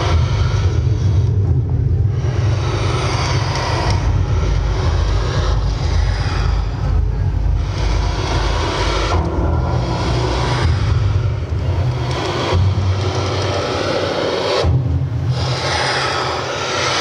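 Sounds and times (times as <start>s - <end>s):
deep rumble with hissing noise: 0.0s - 17.0s.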